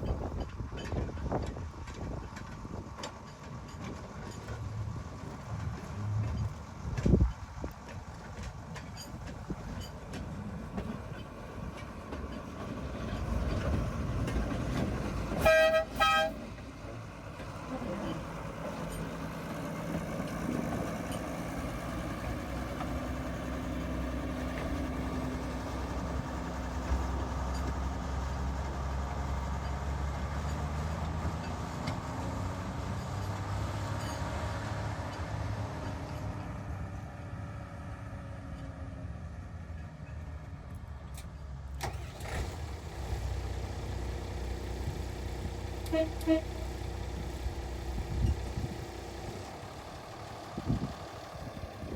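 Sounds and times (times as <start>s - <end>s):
diesel locomotive engine running: 0.0s - 51.9s.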